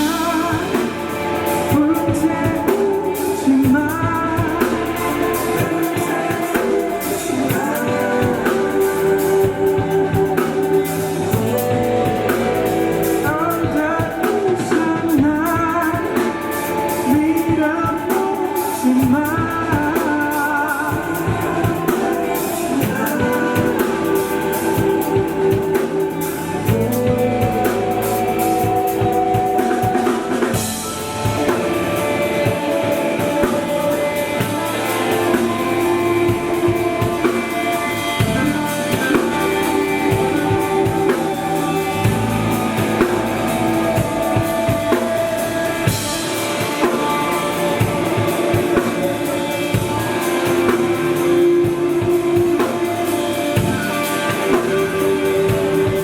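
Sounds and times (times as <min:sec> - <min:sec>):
drum kit: 0:00.0 - 0:56.0
guitars playing sustained chords: 0:00.0 - 0:56.0.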